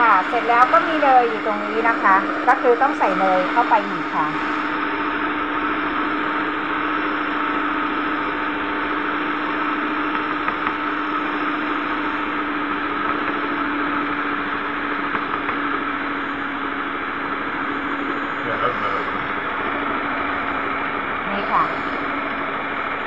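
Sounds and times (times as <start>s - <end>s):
stand mixer motor humming: 0.0s - 23.0s.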